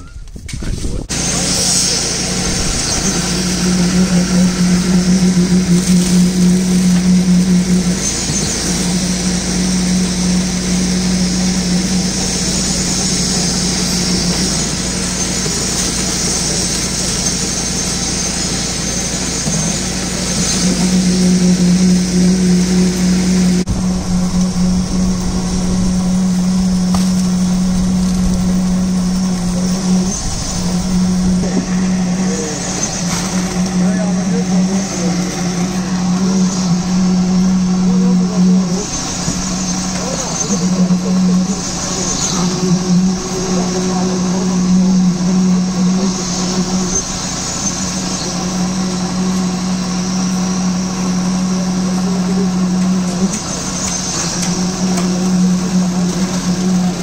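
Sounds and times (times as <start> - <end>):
concrete vibrator humming: 0.0 - 57.0.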